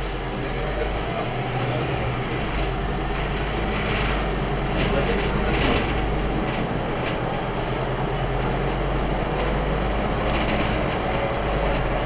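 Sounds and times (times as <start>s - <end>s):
bus engine drone: 0.0s - 12.0s
road and tyre noise: 0.0s - 12.0s.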